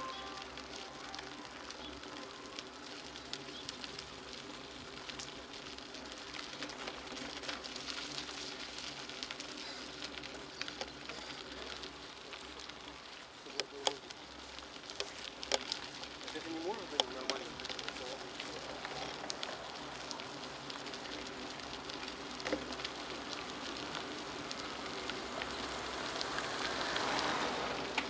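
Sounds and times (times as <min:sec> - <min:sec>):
bicycle tyres on wet asphalt: 0:00.0 - 0:28.0
small ticks and clicks: 0:00.0 - 0:28.0.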